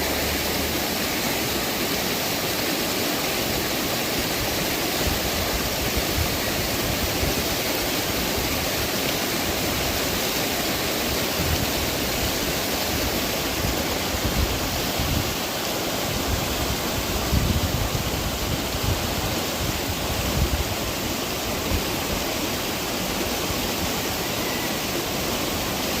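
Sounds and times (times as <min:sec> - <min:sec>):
low rumbling water surges: 0:00.0 - 0:26.0
rushing river water: 0:00.0 - 0:26.0.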